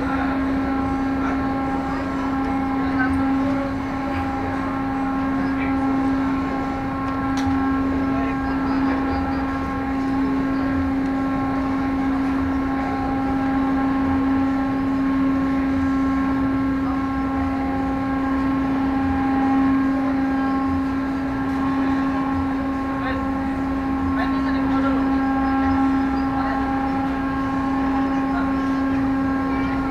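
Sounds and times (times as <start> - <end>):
low rumble: 0.0 - 29.9
ship engines droning: 0.0 - 29.9.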